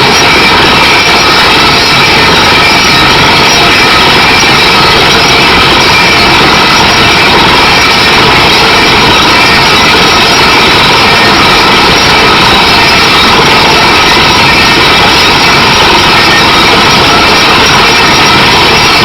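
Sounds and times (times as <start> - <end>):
drilling rig machine noise: 0.0 - 19.0.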